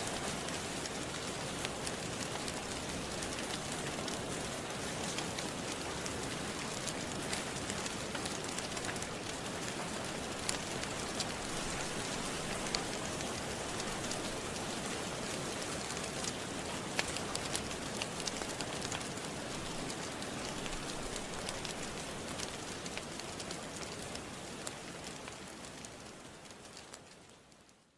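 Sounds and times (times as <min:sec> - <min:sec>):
steady rain: 0:00.0 - 0:27.9
wood fire crackling: 0:00.0 - 0:27.9.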